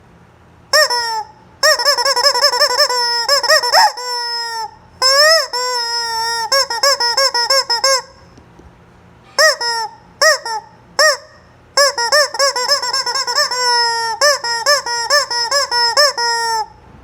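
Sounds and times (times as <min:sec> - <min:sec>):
faint electric fan hum: 0:00.0 - 0:17.0
chicken squawking: 0:00.7 - 0:08.3, 0:09.3 - 0:16.8.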